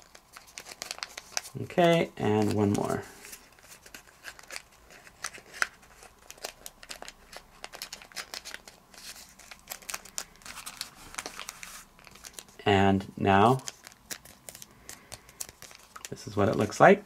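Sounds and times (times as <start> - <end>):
paper crinkling and rustling: 0.0 - 12.6, 13.4 - 17.0.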